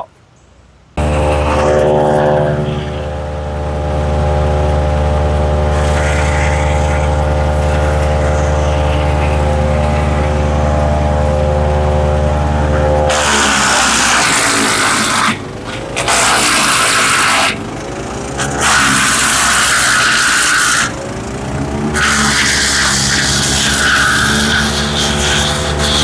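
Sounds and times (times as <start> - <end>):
wood chipper engine running: 1.0 - 26.0.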